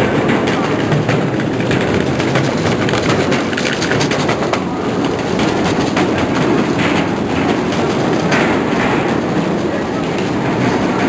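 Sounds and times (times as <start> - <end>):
footsteps of a crowd on a ramp: 0.0 - 11.0
suitcase wheels rattling: 0.0 - 11.0.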